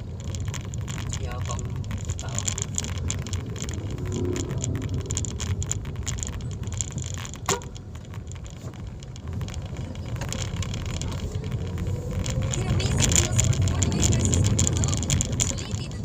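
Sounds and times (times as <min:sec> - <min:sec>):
road rumble in vehicle cabin: 0:00.0 - 0:16.0
small rattles and clicks: 0:00.0 - 0:16.0.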